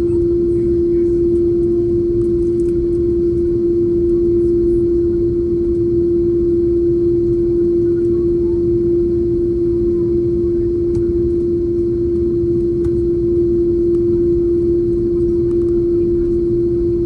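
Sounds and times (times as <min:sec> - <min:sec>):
airliner cabin rumble: 0:00.0 - 0:17.0
constant hum: 0:00.0 - 0:17.0.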